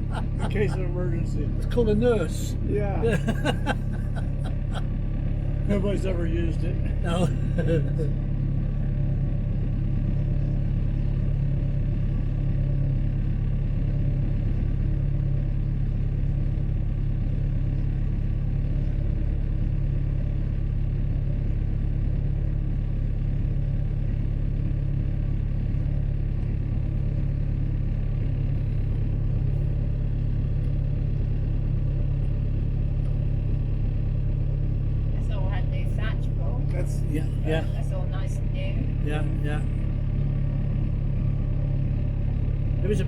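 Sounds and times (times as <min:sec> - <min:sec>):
boat engine low drone: 0:00.0 - 0:43.0.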